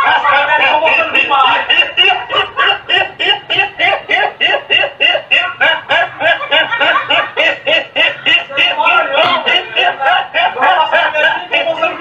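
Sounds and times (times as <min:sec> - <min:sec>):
high-pitched laughter: 0:00.0 - 0:12.0.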